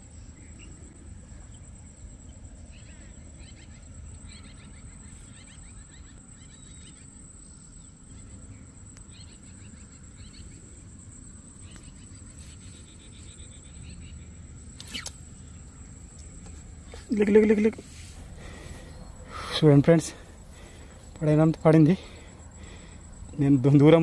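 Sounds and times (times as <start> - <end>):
low steady rumble: 0.0 - 23.8
insects chirping in trills: 0.0 - 24.0.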